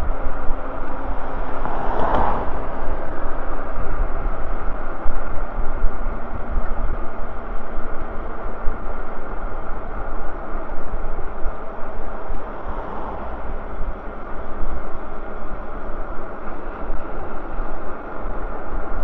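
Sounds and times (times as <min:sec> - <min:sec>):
tyres on paved road: 0:00.0 - 0:19.0
wind rushing on microphone: 0:00.0 - 0:19.0.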